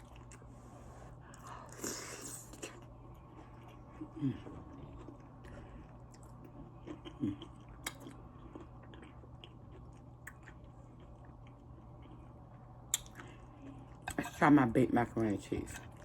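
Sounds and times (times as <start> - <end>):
person chewing food: 0.0 - 0.5, 1.2 - 14.4.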